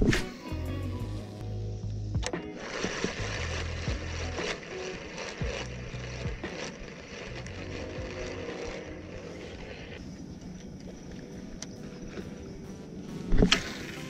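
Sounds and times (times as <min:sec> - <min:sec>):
small boat motor humming: 0:00.6 - 0:14.0.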